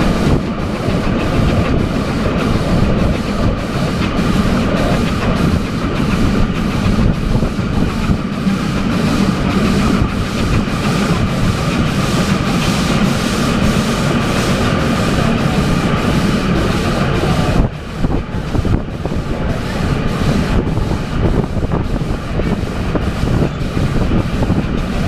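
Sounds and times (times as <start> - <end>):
train wheels on rails: 0.0 - 25.0
wind: 0.0 - 25.0.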